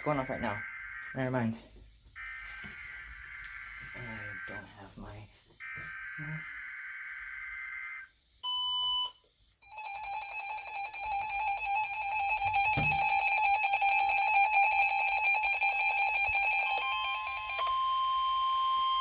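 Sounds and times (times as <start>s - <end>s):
rapid electronic alarm beeping: 0.0s - 19.0s.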